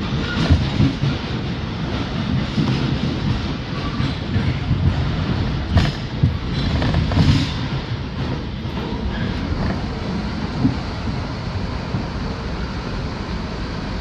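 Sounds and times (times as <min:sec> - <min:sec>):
subway car rumbling: 0:00.0 - 0:14.0.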